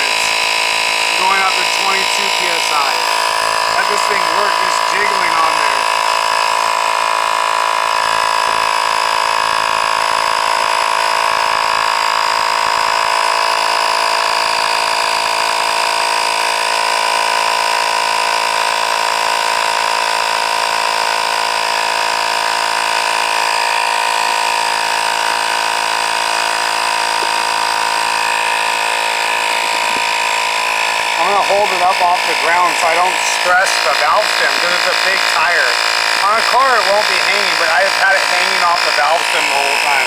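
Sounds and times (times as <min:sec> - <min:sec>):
tire inflator compressor whining: 0:00.0 - 0:40.0.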